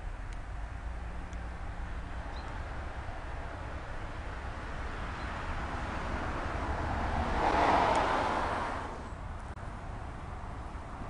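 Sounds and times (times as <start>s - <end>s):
vehicle passing by: 0.8s - 11.0s.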